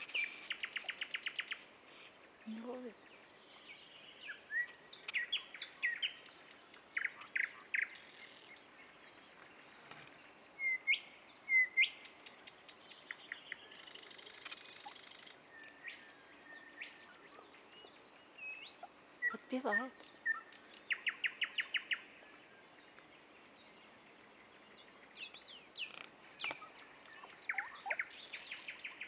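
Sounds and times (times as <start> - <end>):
nightingale singing: 0.0 - 1.8, 2.4 - 29.0.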